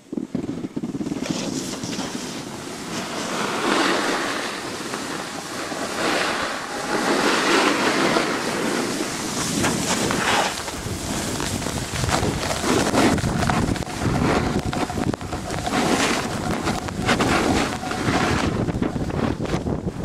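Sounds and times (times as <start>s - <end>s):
snowboard sliding through snow: 0.0s - 20.0s
wind rushing over microphone: 0.0s - 20.0s.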